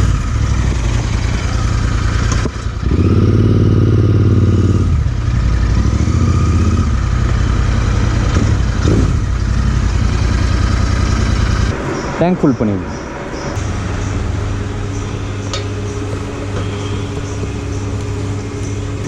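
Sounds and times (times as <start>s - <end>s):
motorcycle engine running: 0.0s - 11.8s, 13.6s - 19.0s.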